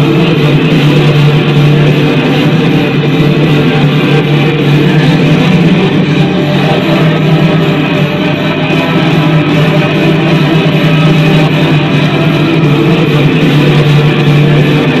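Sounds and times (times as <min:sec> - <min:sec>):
loud rock music with guitar: 0:00.0 - 0:15.0.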